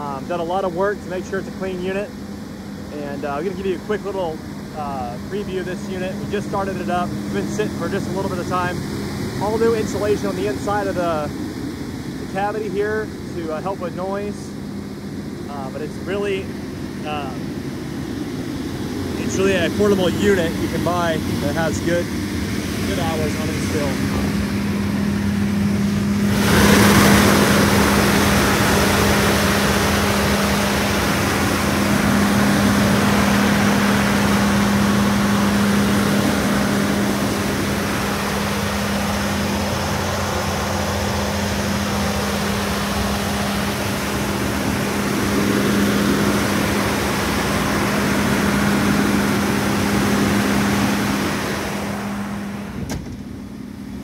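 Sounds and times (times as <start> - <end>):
diesel generator running: 0.0 - 54.0.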